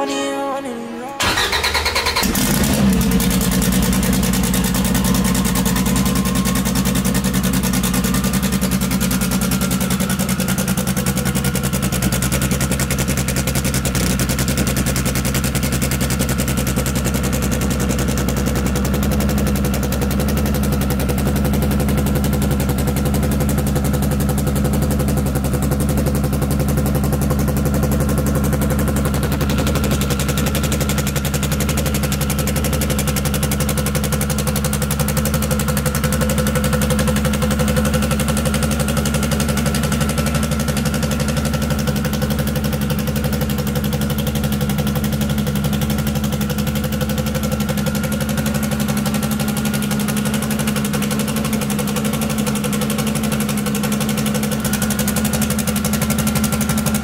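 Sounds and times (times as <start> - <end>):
car engine choppy idle: 1.2 - 57.0.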